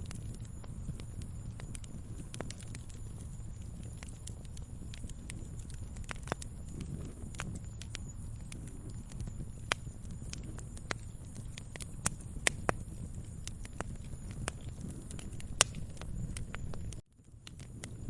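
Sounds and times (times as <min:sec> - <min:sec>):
low rumble of burning fire: 0:00.0 - 0:18.0
wood fire crackling: 0:00.0 - 0:18.0.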